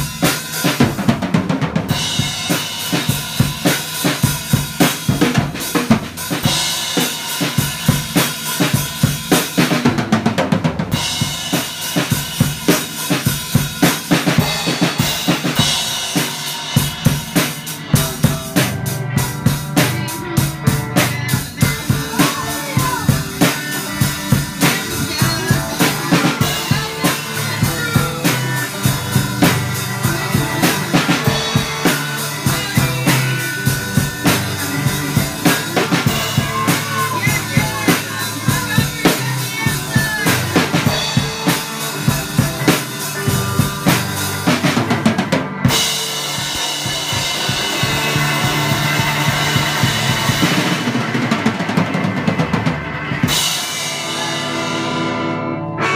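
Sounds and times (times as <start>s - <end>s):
drum kit beat: 0.0s - 55.9s
electric guitars: 0.0s - 55.9s.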